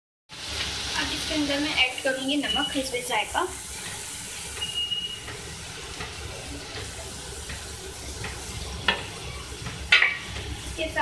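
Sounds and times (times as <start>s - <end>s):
food sizzling in oil: 0.3s - 11.0s.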